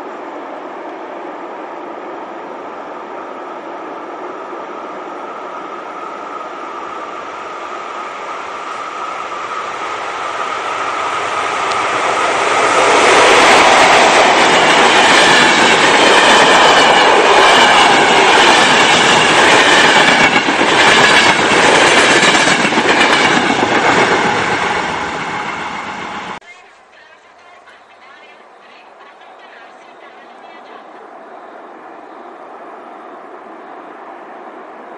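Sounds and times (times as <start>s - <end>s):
train rumble: 0.0s - 34.9s.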